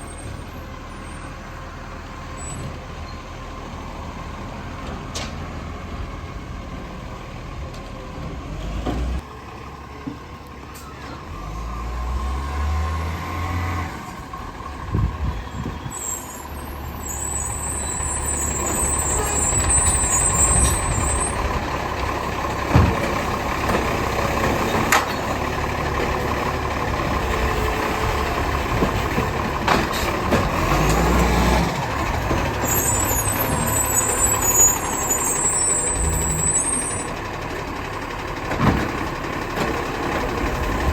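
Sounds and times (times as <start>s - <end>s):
garbage truck engine running: 0.0s - 40.9s.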